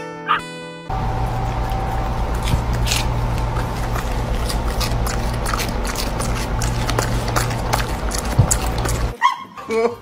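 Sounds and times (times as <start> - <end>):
steady low hum: 0.9 - 9.1
dog chewing crunchy snack: 0.9 - 9.2.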